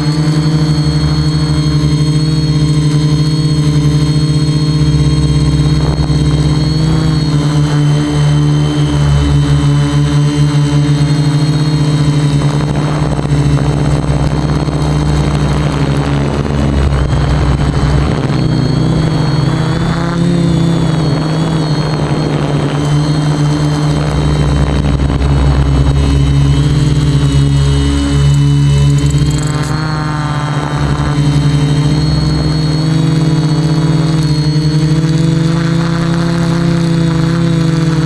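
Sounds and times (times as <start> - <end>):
quadcopter propellers buzzing: 0.0 - 38.0.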